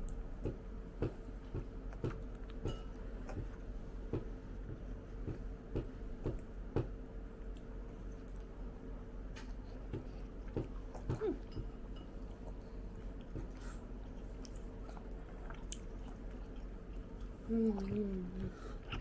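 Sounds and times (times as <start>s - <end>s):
faint steady hum: 0.0s - 19.0s
light eating clicks and taps: 0.0s - 19.0s.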